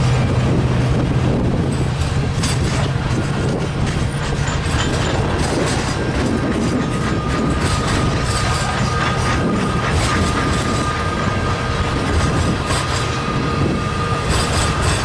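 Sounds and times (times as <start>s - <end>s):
freight train rumbling past: 0.0s - 15.0s
wheels clacking over rail joints: 0.0s - 15.0s
high wheel squeal: 1.8s - 15.0s.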